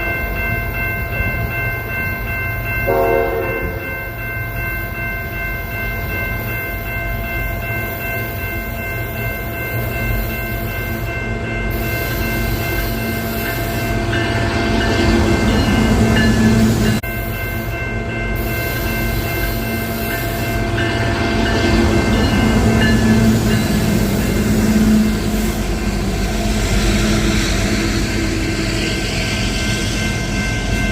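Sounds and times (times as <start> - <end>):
freight train rumbling: 0.0 - 30.9.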